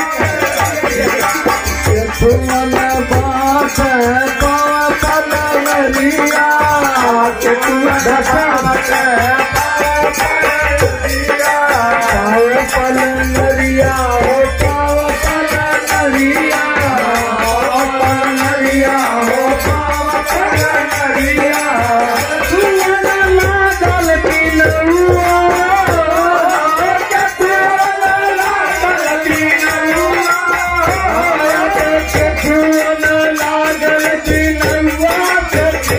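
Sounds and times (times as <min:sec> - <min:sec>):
harmonium: 0:00.0 - 0:35.9
man singing folk song: 0:00.0 - 0:35.9.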